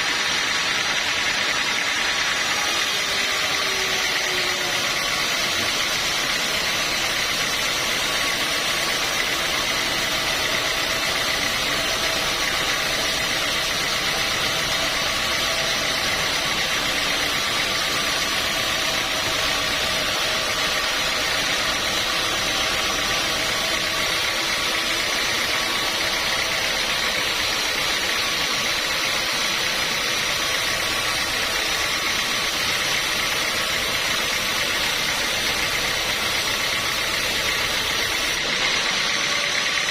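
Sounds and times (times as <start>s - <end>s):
sawmill machinery whining: 0.0s - 39.9s.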